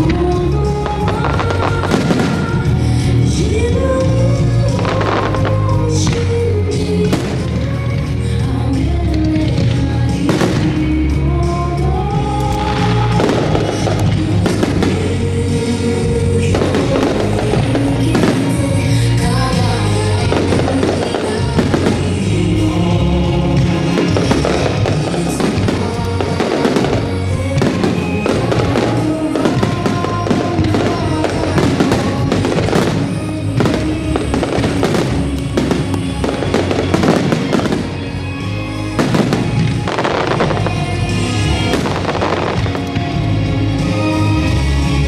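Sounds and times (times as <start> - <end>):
fireworks bursting: 0.0 - 45.0
loud music: 0.0 - 45.0.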